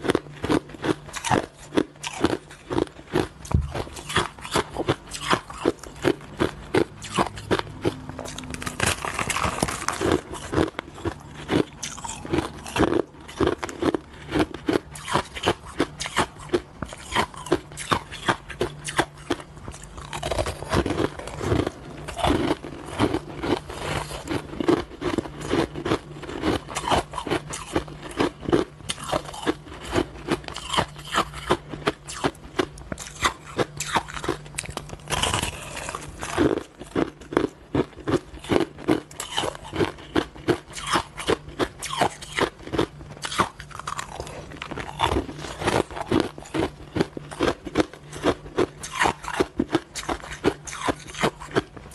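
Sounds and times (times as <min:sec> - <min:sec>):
ice being chewed: 0:00.0 - 0:51.9.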